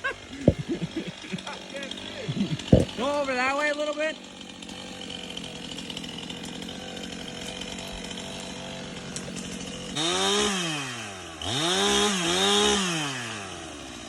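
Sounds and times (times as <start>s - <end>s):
chainsaw idling and revving: 0.0s - 14.0s.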